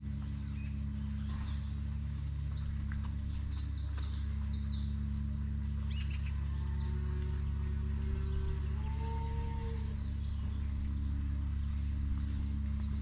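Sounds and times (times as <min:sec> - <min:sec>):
small birds chirping and trilling: 0:00.0 - 0:13.0
steady low hum: 0:00.0 - 0:13.0.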